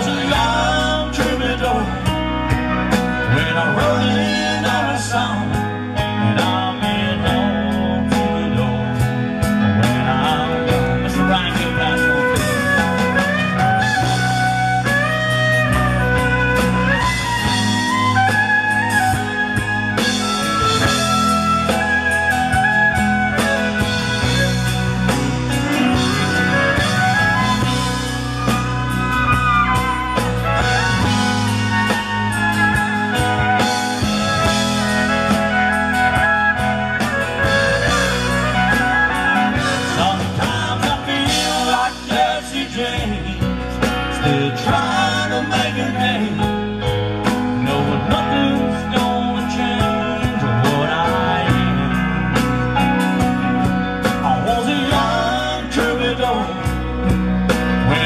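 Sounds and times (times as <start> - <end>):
drum kit beat: 0.0 - 58.0
electric guitars: 0.0 - 58.0.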